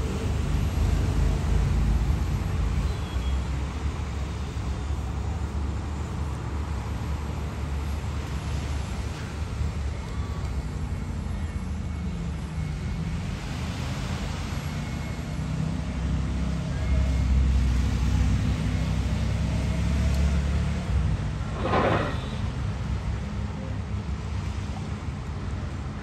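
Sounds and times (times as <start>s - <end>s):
diesel engine low rumble: 0.0s - 26.0s.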